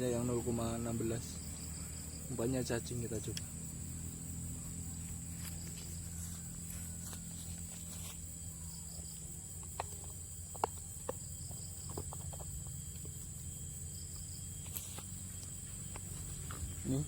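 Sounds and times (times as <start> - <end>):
insect drone: 0.0 - 17.0
low steady hum: 0.0 - 17.0.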